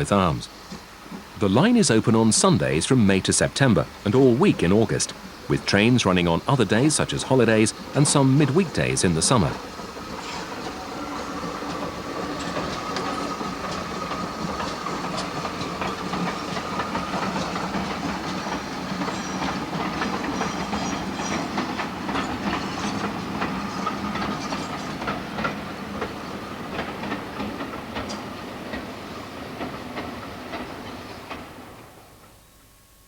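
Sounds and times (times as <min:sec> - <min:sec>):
wheels clicking over rail joints: 0:00.0 - 0:32.4
steam train rumbling: 0:00.0 - 0:32.5
steam hiss: 0:00.0 - 0:32.6.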